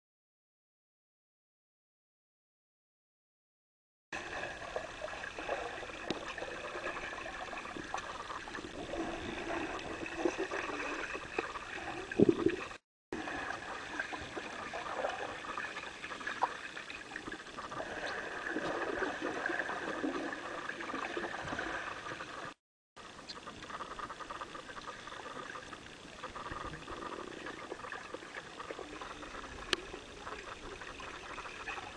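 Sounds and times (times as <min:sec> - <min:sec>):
rushing gurgling water: 0:04.2 - 0:31.9
water splashes: 0:04.2 - 0:31.9.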